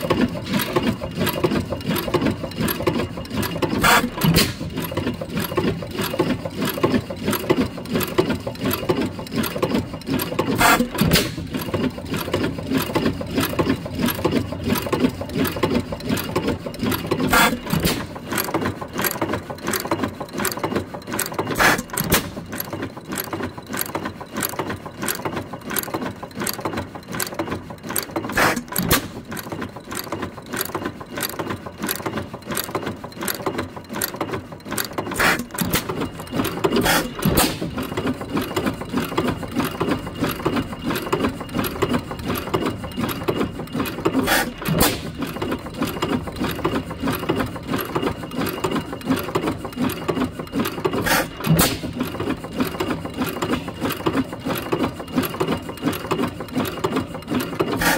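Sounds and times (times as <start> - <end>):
rapid clicking of valve gear: 0.0 - 57.9.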